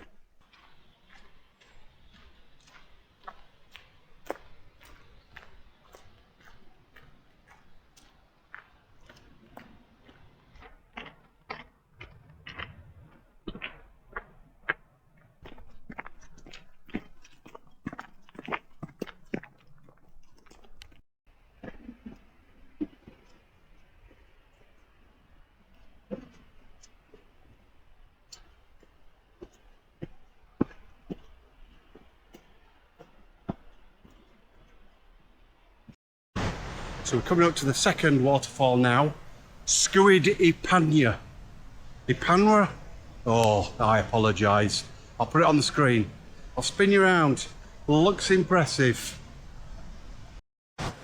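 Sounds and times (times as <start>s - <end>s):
footsteps crunching on trail: 0.0s - 36.0s, 38.0s - 49.3s.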